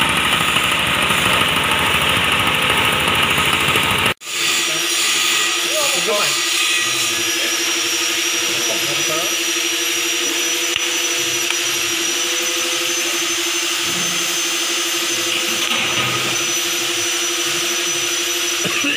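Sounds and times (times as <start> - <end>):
grinding mill running: 0.0 - 18.9.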